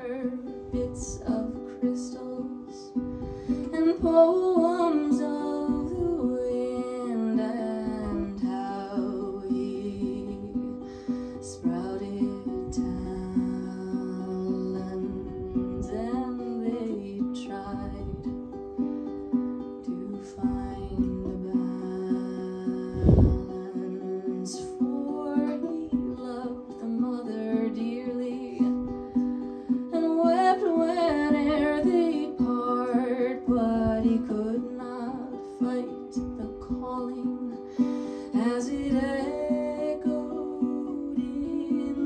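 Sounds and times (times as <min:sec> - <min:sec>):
plucked acoustic strings: 0:00.0 - 0:42.0.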